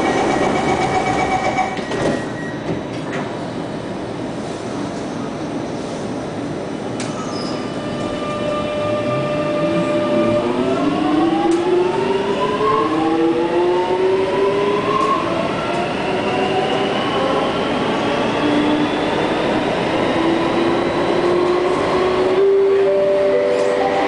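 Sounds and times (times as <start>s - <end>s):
train wheel and running noise: 0.0s - 24.0s.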